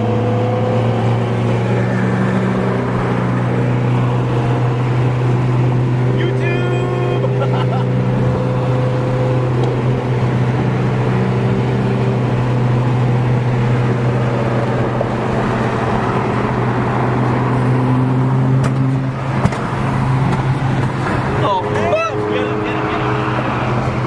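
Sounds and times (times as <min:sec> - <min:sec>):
car engine droning: 0:00.0 - 0:24.0
road noise: 0:00.0 - 0:24.0.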